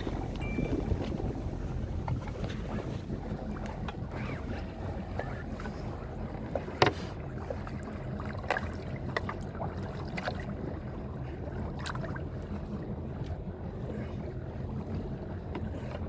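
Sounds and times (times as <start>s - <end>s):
knocks and clicks on boat: 0.0s - 10.7s, 11.6s - 16.0s
boat engine humming: 0.0s - 16.0s.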